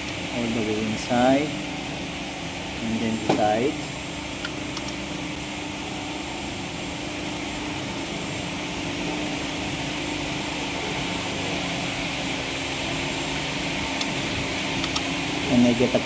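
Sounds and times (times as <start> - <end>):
machinery drone with hiss and hum: 0.0 - 16.0.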